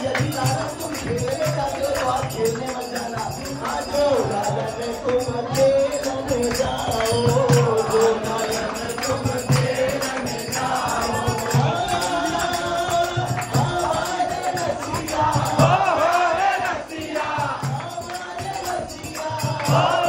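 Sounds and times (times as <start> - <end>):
group singing: 0.0 - 20.0
jingling percussion: 0.0 - 20.0
man singing into a microphone: 0.0 - 20.0.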